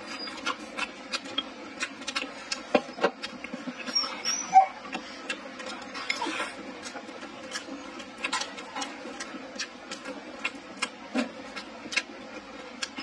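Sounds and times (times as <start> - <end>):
chewing and lip-smacking: 0.0 - 13.0.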